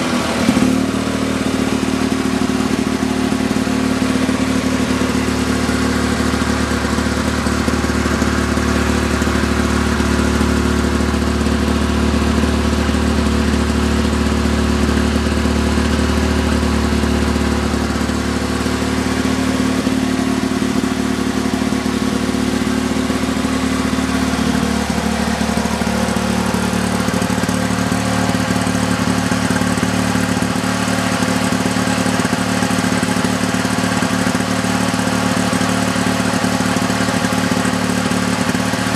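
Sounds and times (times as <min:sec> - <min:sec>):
two-stroke mower engine running: 0:00.0 - 0:38.9.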